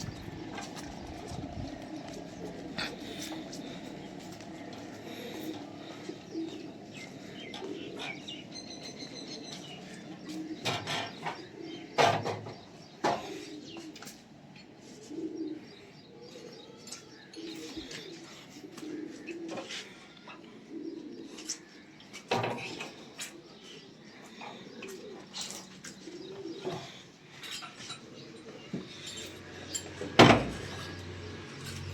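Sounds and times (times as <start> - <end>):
birds cooing: 0.0 - 31.9.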